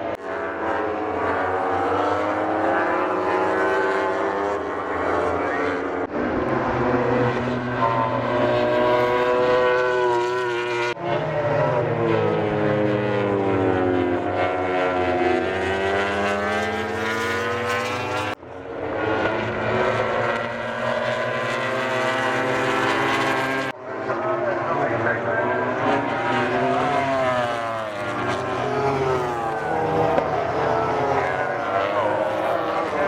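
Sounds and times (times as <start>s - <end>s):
race bike engines passing: 0.1s - 18.4s, 19.0s - 33.0s.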